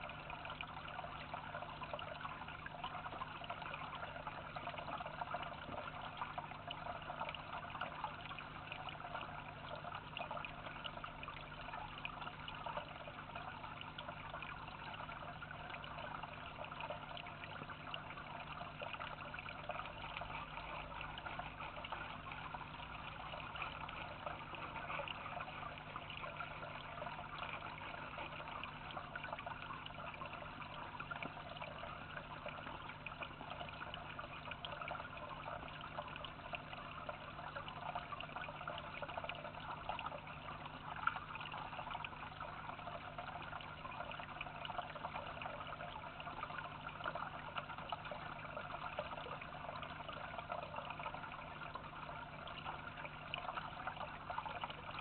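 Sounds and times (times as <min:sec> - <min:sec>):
faint low hum: 0:00.0 - 0:55.0
water trickling into a dish: 0:00.0 - 0:55.0.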